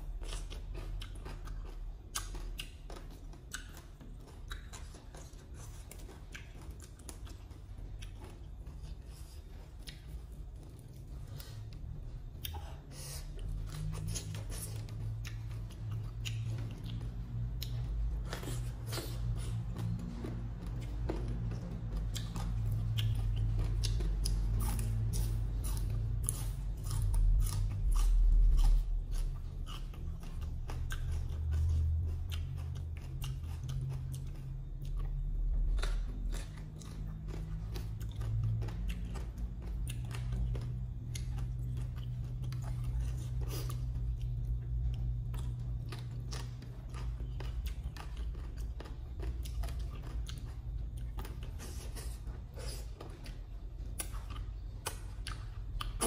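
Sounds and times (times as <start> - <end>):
crisp wet chewing: 0.0 - 56.0.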